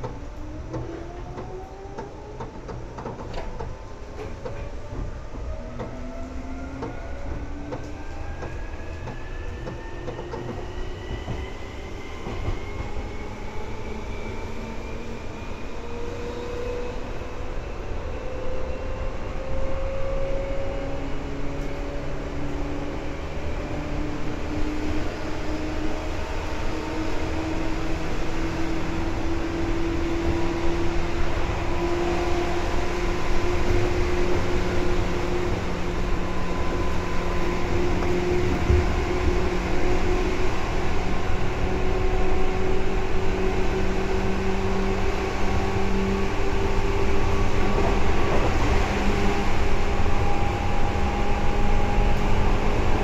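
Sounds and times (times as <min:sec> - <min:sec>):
train running rumble: 0:00.0 - 0:16.6, 0:19.0 - 0:53.0.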